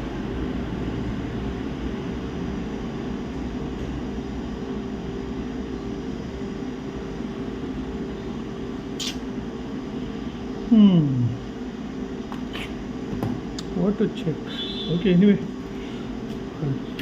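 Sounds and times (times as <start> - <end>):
background hum and rumble: 0.0 - 17.0.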